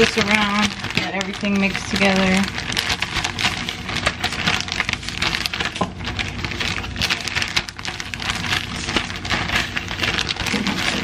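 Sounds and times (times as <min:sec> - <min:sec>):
plastic bag of seasonings shaken: 0:00.0 - 0:11.0.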